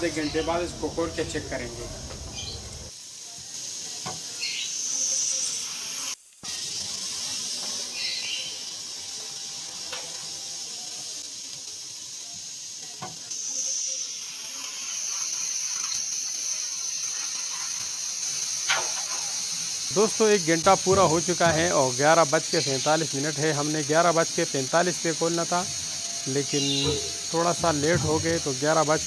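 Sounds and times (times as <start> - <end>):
pressure cooker steam hissing: 0.0 - 29.0.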